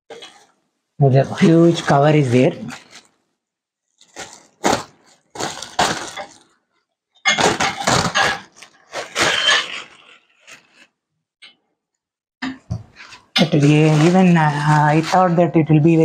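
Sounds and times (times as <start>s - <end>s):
plastic wrapping crinkling: 0.1s - 11.0s, 12.9s - 16.0s.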